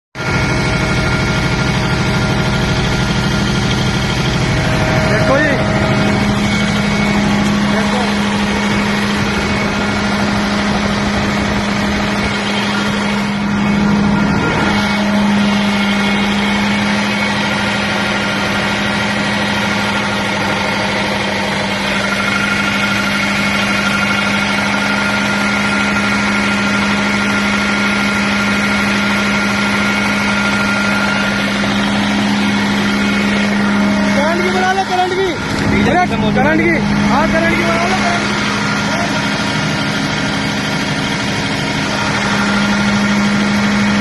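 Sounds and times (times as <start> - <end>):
diesel generator humming: 0.2 - 44.0
high whining tones: 0.2 - 44.0.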